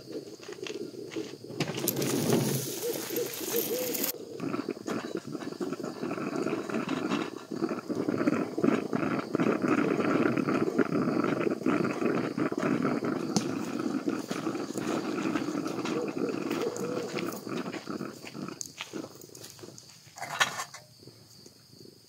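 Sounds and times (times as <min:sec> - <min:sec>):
campfire crackling: 0:01.6 - 0:20.0
coffee pot bubbling and gurgling: 0:01.6 - 0:20.8.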